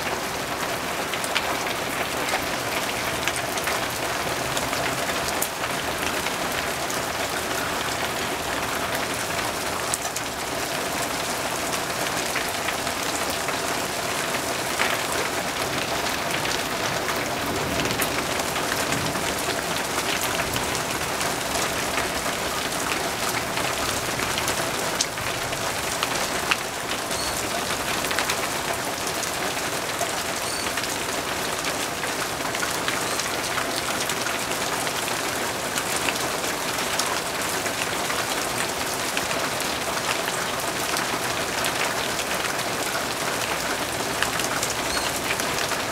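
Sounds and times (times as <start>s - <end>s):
raindrops tapping close by: 0.0s - 45.9s
steady rain: 0.0s - 45.9s.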